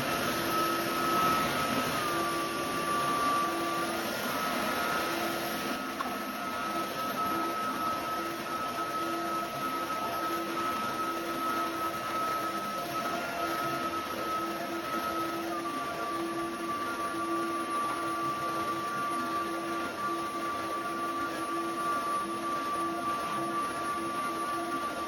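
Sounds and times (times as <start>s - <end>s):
floor vacuum running: 0.0s - 25.0s.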